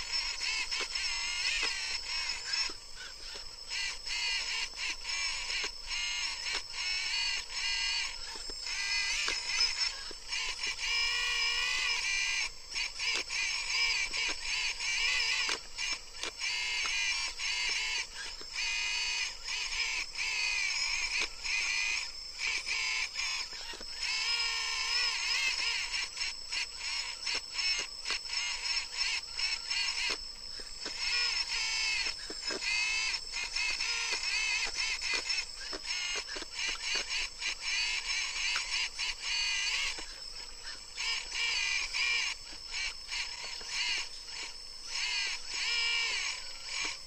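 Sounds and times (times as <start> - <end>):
electric hydraulic pump whining: 0.0 - 47.0.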